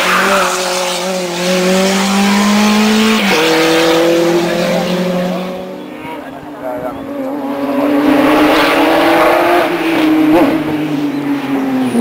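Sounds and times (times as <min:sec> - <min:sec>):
rally car accelerating: 0:00.0 - 0:12.0.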